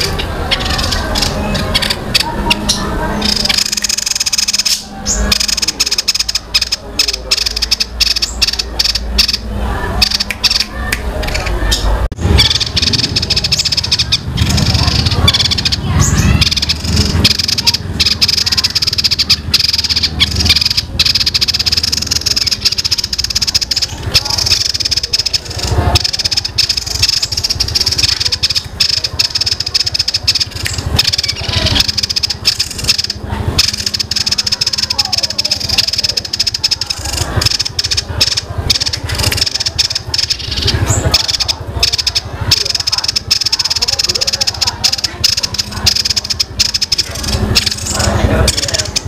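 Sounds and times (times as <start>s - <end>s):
songbird trilling song: 0.0s - 49.0s.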